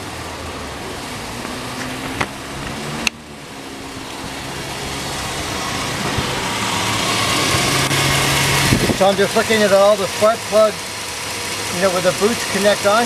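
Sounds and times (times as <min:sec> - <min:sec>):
misfiring engine idling: 0:02.0 - 0:13.0.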